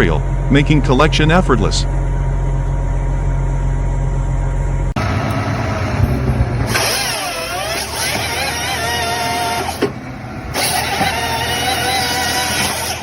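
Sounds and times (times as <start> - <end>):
heavy machine engine drone: 0.0 - 13.0
wavering machine whine: 0.0 - 13.0.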